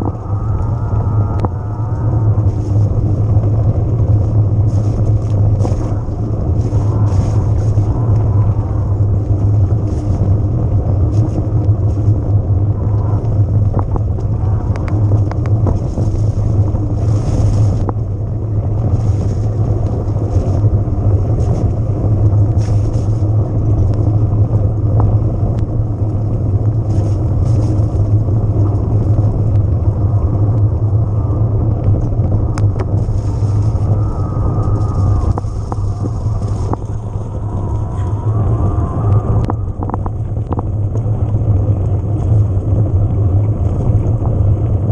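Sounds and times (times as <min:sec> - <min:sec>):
wind rumble: 0:00.0 - 0:44.9.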